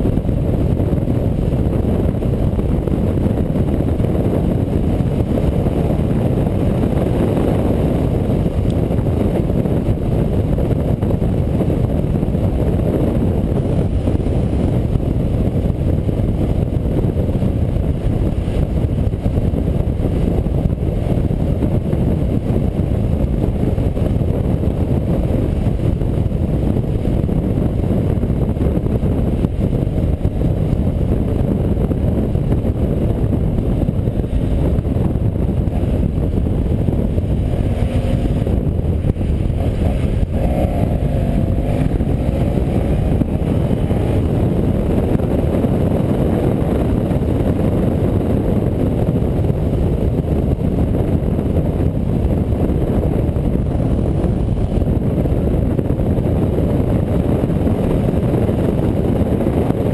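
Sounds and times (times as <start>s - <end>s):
motorcycle engine droning: 0.0s - 59.9s
wind rushing on microphone: 0.0s - 59.9s.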